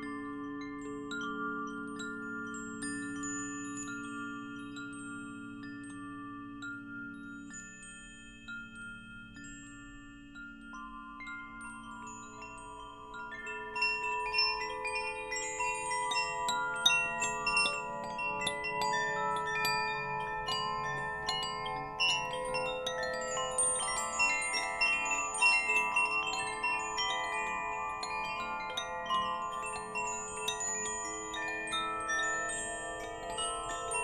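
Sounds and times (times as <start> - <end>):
wind chimes ringing: 0.0 - 34.0.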